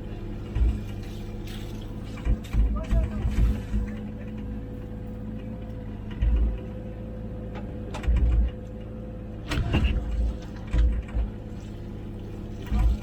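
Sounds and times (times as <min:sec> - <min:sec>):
dull low thumps with clicks: 0:00.0 - 0:06.8, 0:07.5 - 0:13.0
excavator diesel engine humming: 0:00.0 - 0:13.0.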